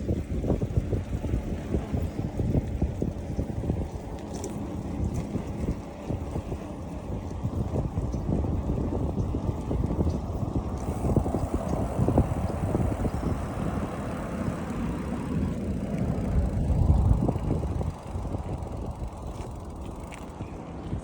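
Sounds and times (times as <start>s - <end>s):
bicycle road noise: 0.0s - 21.0s
wind buffeting microphone: 0.0s - 21.0s.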